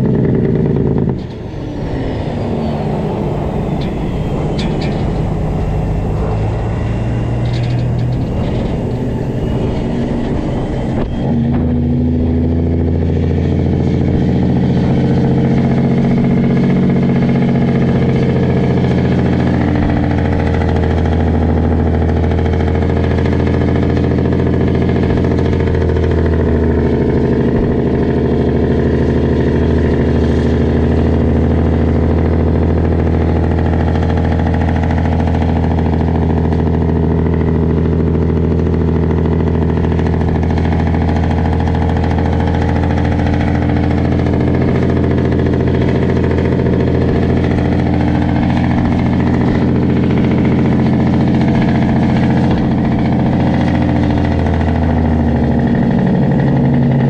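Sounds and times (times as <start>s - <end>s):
diesel truck engine running loud: 0.0s - 57.0s.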